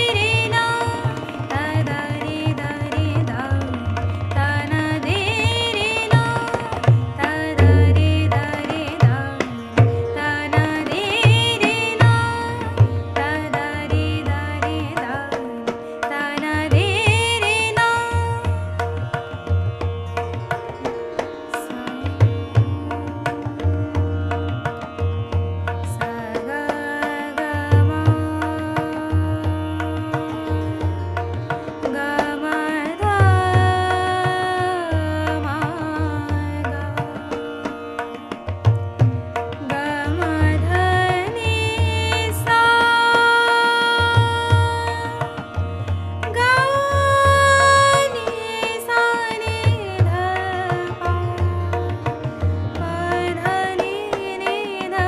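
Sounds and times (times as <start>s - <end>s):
woman singing: 0.0s - 19.1s, 21.5s - 24.6s, 25.8s - 37.8s, 39.4s - 55.0s
tabla playing: 0.0s - 55.0s.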